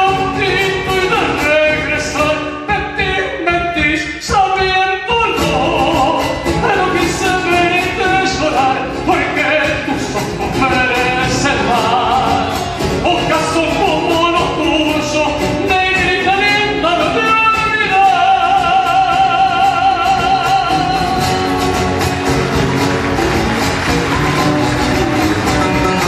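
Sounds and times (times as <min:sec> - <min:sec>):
person singing: 0:00.0 - 0:22.7
rhythmic accompaniment: 0:00.0 - 0:26.0.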